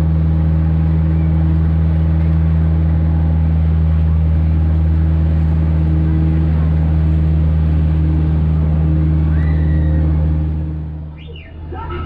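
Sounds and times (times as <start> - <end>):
vehicle motor droning: 0.0 - 12.0.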